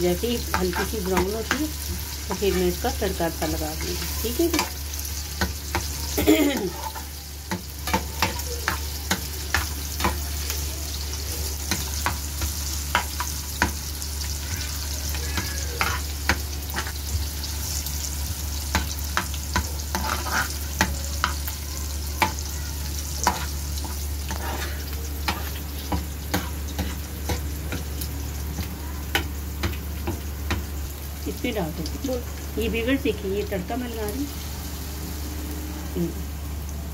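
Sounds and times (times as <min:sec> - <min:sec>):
spices sizzling in hot oil: 0:00.0 - 0:36.9.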